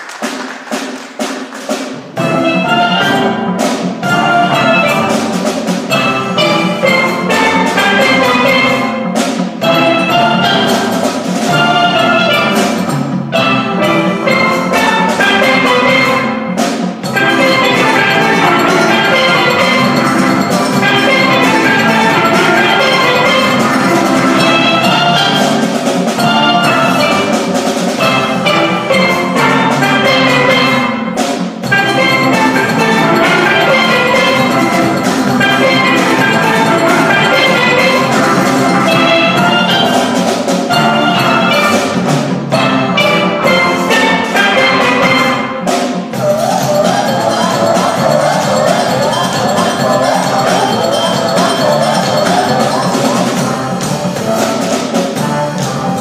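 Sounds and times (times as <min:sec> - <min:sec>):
drum beat: 0:00.0 - 0:56.0
steel pan band playing: 0:00.0 - 0:56.0.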